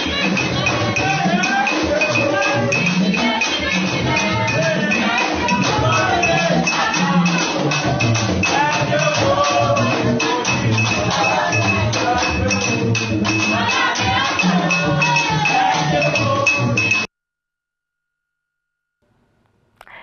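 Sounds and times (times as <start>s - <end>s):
person singing: 0.0s - 17.0s
percussion beat: 0.0s - 17.1s.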